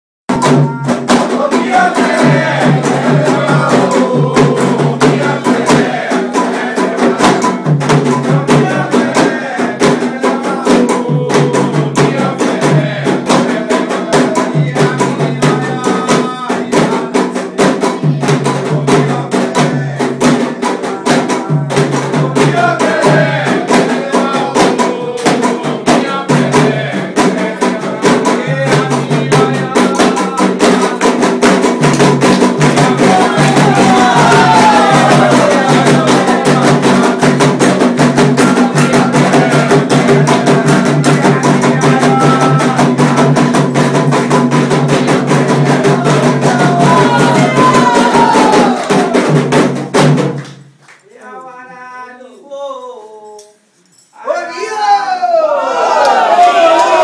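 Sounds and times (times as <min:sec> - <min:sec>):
voices singing: 0:00.3 - 0:50.2, 0:51.0 - 0:57.0
hand drums beating fast: 0:00.3 - 0:50.8.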